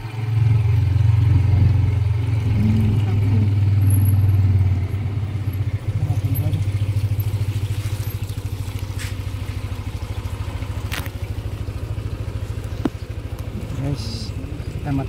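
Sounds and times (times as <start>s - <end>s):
motor scooter engine idling: 0.0s - 15.0s.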